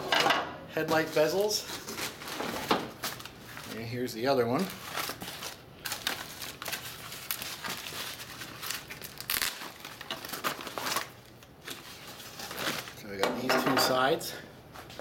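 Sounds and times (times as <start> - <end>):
plastic packaging crinkling: 1.0 - 13.1.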